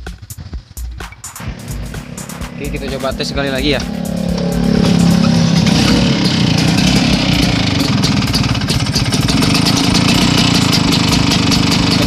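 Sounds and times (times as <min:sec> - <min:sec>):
scooter engine rattling: 0:00.2 - 0:12.0.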